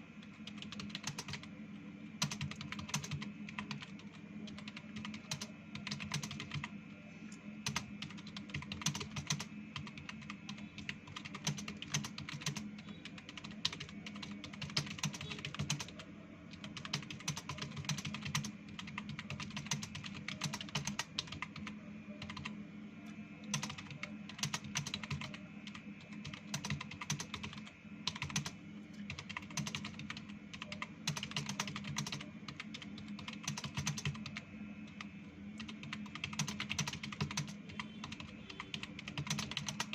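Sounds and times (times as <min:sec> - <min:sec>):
steady low hum: 0:00.0 - 0:39.9
fast typing on computer keyboard: 0:00.2 - 0:01.5, 0:02.2 - 0:06.7, 0:07.6 - 0:22.5, 0:23.4 - 0:39.9.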